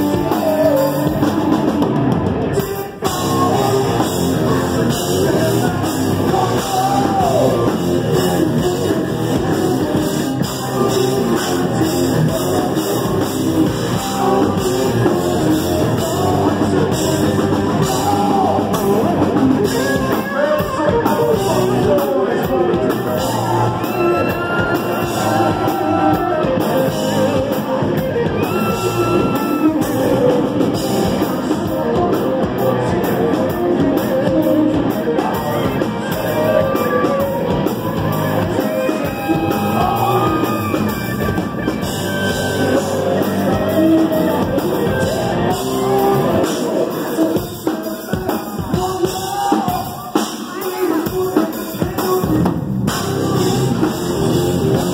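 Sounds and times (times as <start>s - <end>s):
person singing: 0.0s - 54.9s
rock band playing live: 0.0s - 54.9s.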